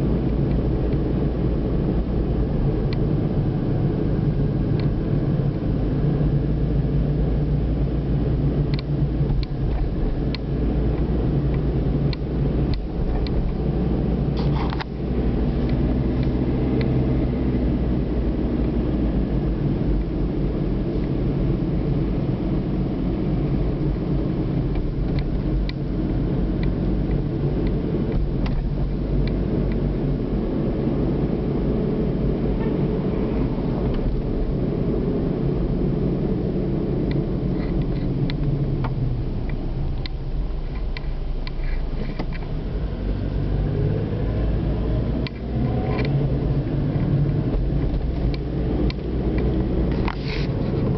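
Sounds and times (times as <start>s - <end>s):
car engine and tyre noise: 0.0s - 50.9s.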